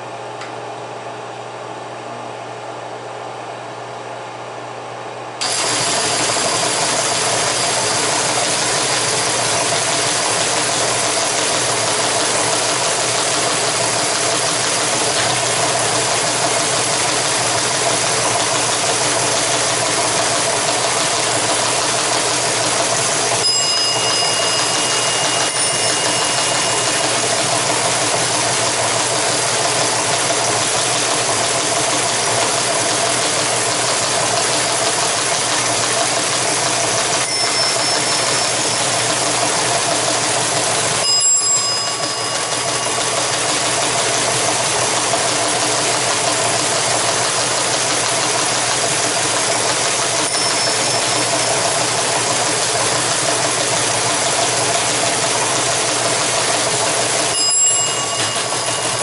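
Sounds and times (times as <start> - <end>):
teleprinter clattering: 5.4 - 57.4
printer motor running: 5.4 - 59.0.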